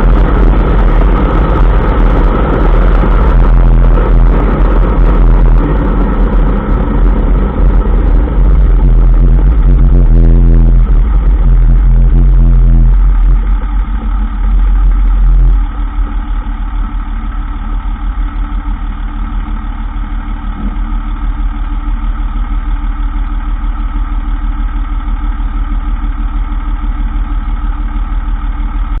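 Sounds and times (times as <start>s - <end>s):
loud low hum: 0.0s - 29.0s
truck engine idling: 0.0s - 29.0s.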